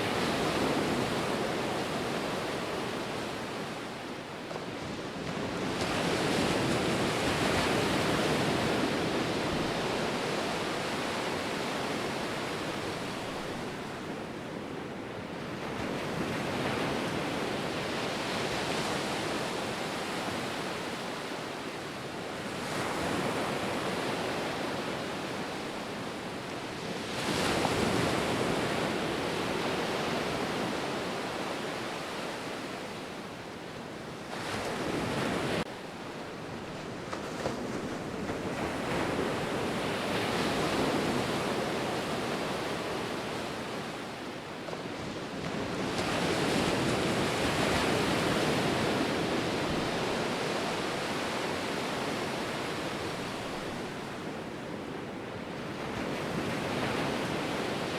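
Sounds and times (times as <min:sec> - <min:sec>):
ocean waves breaking on shore: 0:00.0 - 0:57.9.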